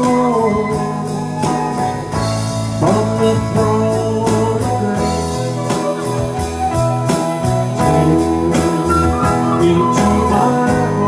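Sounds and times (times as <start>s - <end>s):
drum kit beat: 0.0s - 11.0s
live band music: 0.0s - 11.0s.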